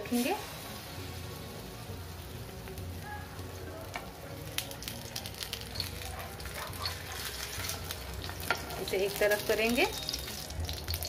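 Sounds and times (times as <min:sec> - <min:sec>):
bread frying in hot oil: 0:00.0 - 0:11.0.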